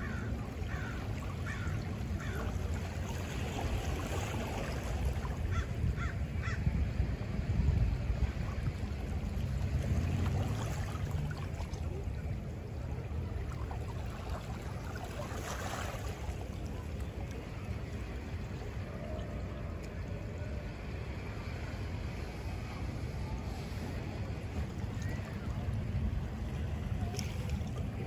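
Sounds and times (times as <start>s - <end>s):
surf: 0.0s - 28.0s
wind: 0.0s - 28.0s.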